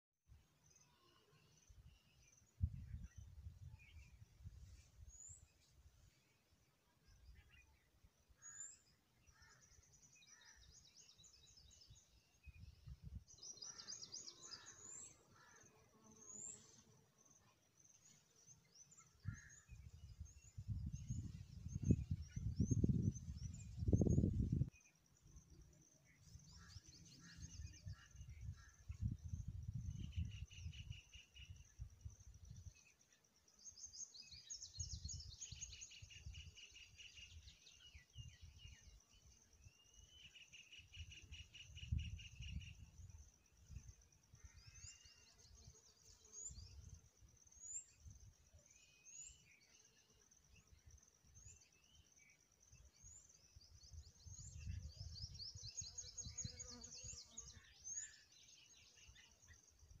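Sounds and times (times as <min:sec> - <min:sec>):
small birds trilling and chirping: 0:00.4 - 1:00.0.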